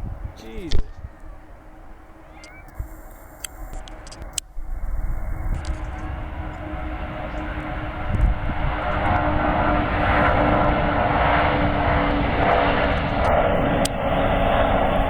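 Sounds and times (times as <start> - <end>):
jet aircraft engines passing: 0.0 - 15.0.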